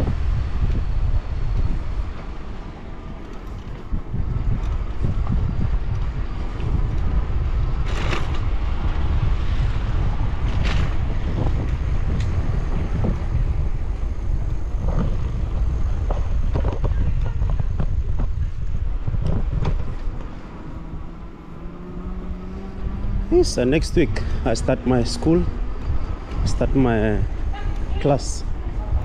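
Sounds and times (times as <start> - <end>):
bicycle tyres rumbling on cobblestones: 0.0 - 29.0
wind buffeting microphone: 0.0 - 29.0.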